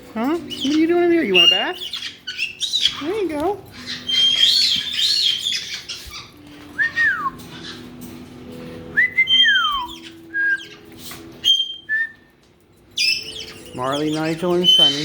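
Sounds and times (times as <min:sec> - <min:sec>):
parrots whistling: 0:00.4 - 0:08.1, 0:08.8 - 0:12.3, 0:12.9 - 0:15.0.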